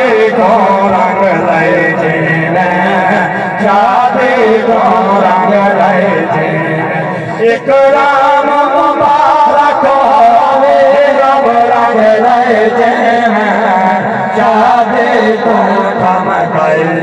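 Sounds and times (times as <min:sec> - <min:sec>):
men singing through loudspeakers: 0:00.0 - 0:17.0.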